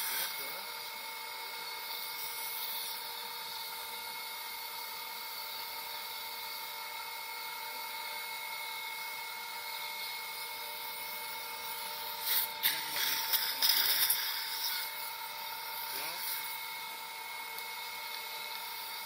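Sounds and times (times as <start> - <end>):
suction unit hissing: 0.0 - 6.7, 9.7 - 19.0.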